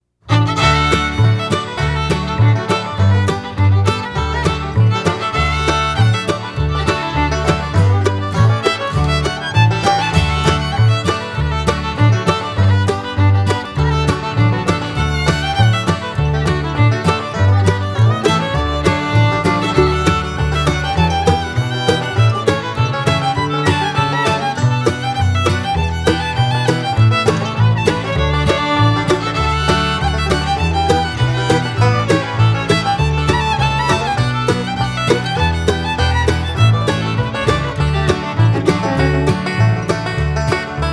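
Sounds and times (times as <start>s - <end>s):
upbeat bluegrass music with fiddle: 0.2s - 40.9s.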